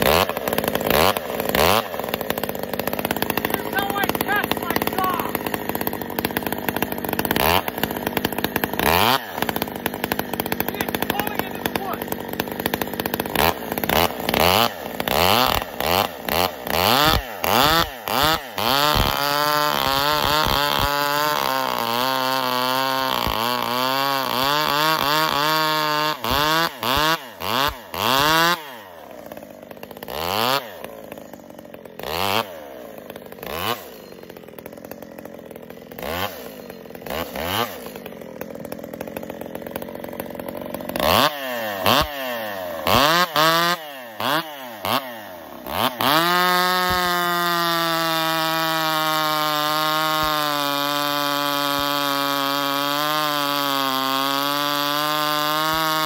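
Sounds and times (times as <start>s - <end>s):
chainsaw cutting log: 0.0s - 56.0s
chainsaw idling: 0.0s - 56.0s
chainsaw revving: 0.0s - 56.0s.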